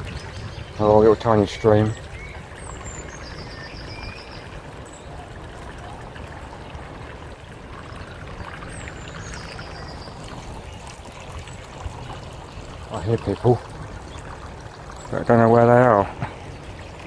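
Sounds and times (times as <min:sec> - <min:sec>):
small stream trickling: 0:00.0 - 0:17.0.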